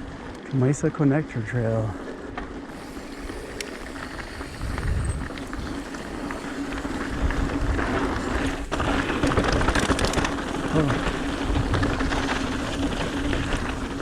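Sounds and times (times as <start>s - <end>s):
bike tyres on dirt trail: 0.0s - 14.0s.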